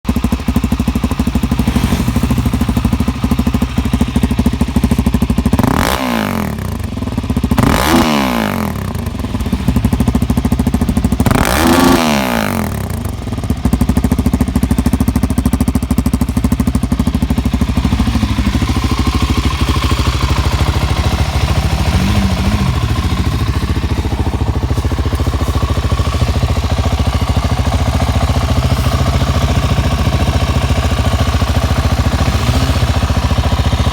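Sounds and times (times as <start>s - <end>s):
motorcycle engine idling: 0.0s - 33.9s
motorcycle engine revving: 0.1s - 33.9s.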